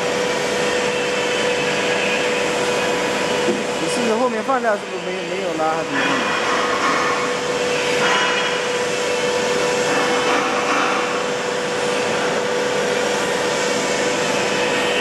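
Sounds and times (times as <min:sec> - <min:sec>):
mid-pitched machine hum: 0:00.0 - 0:15.0.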